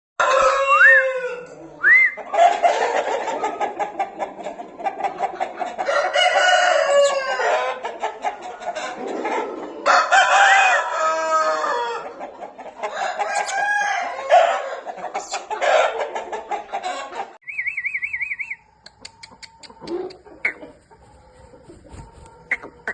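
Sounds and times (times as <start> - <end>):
roosters crowing: 0.2 - 18.6
chickens clucking: 0.2 - 22.9.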